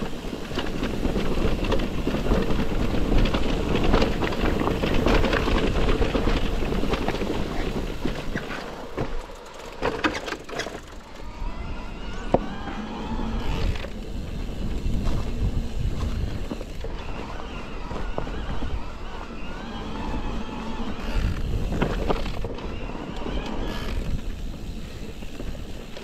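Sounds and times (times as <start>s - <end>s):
electric bike motor whining: 0.0s - 26.0s
low rumble from riding: 0.0s - 26.0s.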